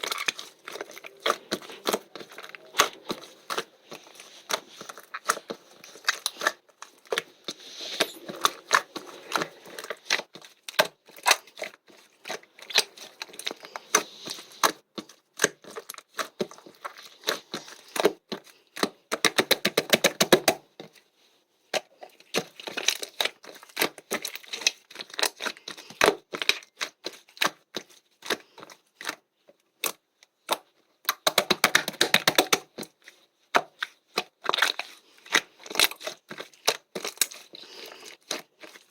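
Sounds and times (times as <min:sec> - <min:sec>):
squished material bubbles crackling: 0:00.0 - 0:20.0, 0:21.7 - 0:38.9.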